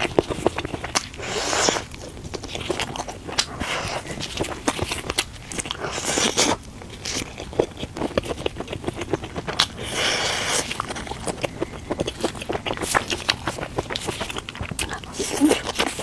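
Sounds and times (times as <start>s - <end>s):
biting and chewing: 0.0s - 16.0s.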